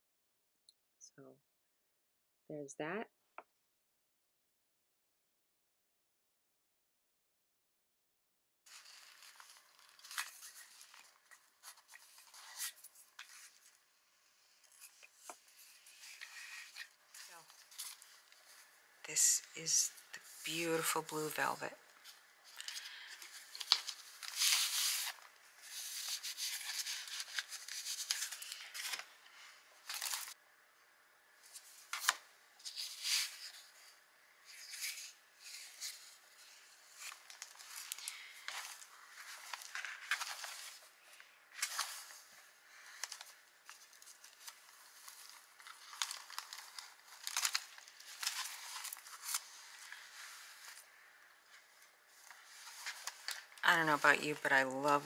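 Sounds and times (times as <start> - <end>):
paper pages rustling: 8.7 - 18.7, 19.9 - 30.4, 31.4 - 55.0.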